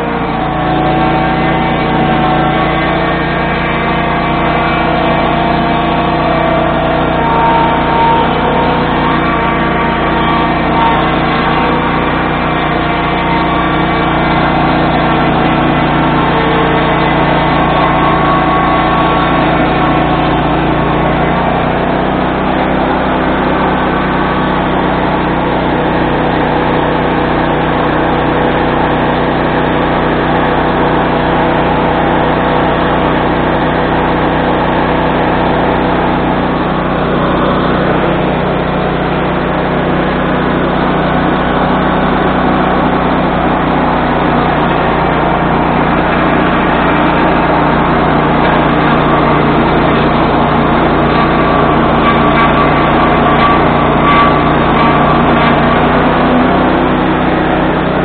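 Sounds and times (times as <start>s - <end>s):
gas engine running: 0.0s - 58.0s
sawmill mechanical noise: 0.0s - 58.0s.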